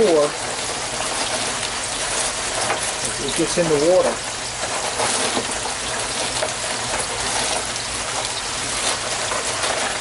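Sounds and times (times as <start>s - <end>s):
water running hiss: 0.0s - 10.0s.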